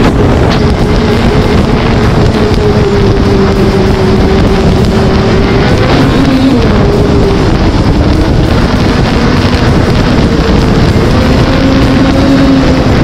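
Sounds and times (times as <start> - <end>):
snowmobile engine and track drone: 0.0 - 13.0.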